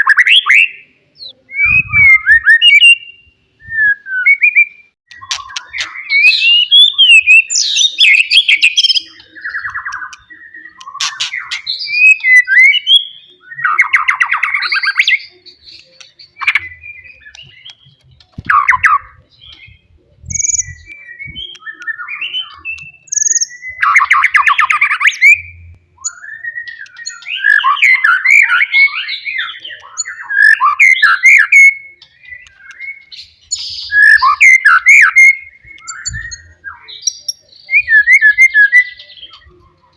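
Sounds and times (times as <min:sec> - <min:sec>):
bird singing whistled phrases: 0:00.0 - 0:39.6.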